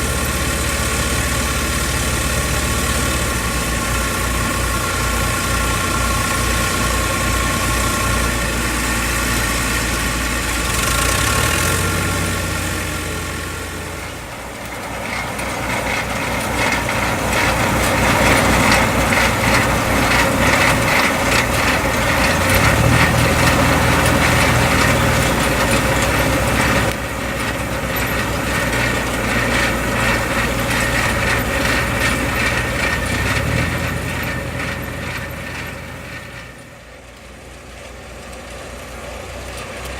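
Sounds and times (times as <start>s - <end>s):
diesel tractor engine running: 0.0s - 39.9s
harvesting machinery rattling: 0.0s - 39.9s.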